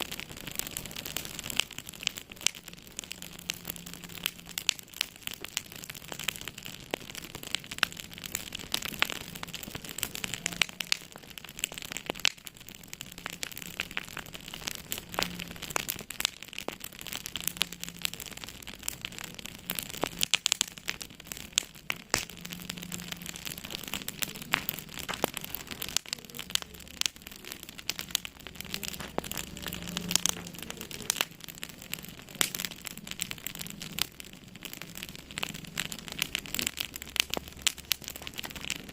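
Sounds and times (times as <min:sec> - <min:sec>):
soft steady hiss: 0:00.0 - 0:38.9
wood fire crackling: 0:00.0 - 0:38.9.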